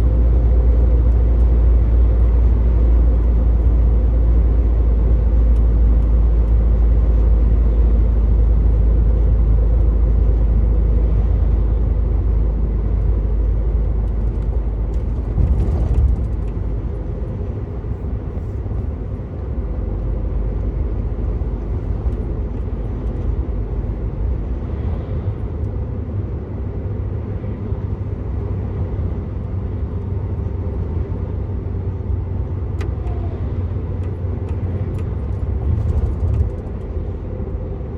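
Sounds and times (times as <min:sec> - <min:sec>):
truck engine and tyre rumble: 0:00.0 - 0:37.9.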